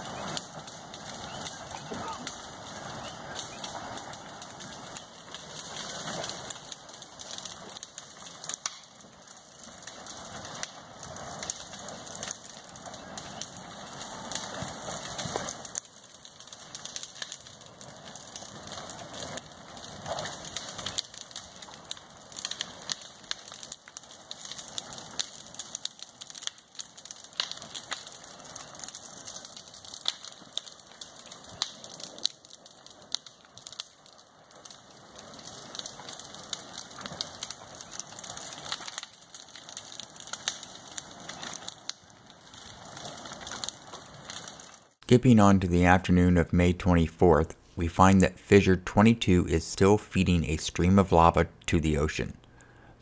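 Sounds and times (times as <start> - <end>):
vegetation burning with crackles and pops: 0.0 - 53.0.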